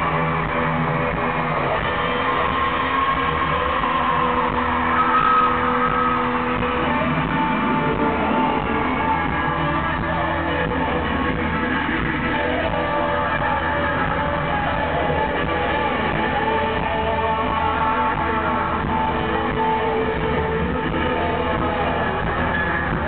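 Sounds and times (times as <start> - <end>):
drums playing: 0.0 - 23.0
electric guitars: 0.0 - 23.0.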